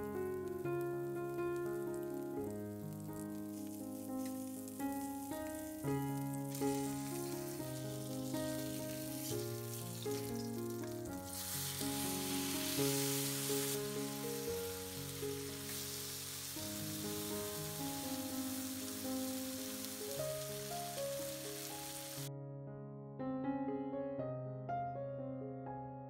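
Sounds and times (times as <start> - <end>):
background music: 0.0 - 22.3
fish fillets sizzling in pan: 0.0 - 22.3.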